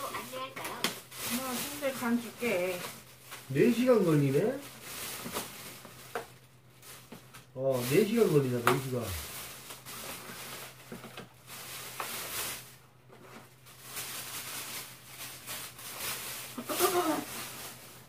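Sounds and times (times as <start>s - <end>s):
plastic bag rustling: 0.0s - 18.0s.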